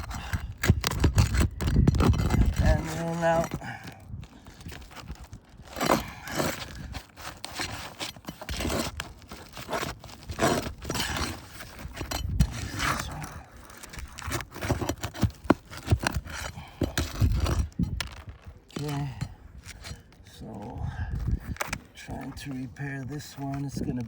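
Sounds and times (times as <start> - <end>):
roof shingles scraping and crackling: 0.0 - 20.3.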